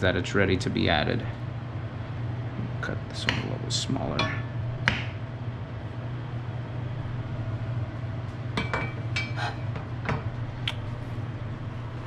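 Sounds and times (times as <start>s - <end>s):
stove vent fan humming: 0.0s - 12.0s.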